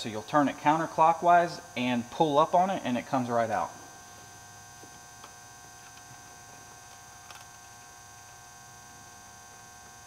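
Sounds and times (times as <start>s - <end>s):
electrical mains hum: 0.0s - 10.0s
high steady whine: 0.0s - 10.0s.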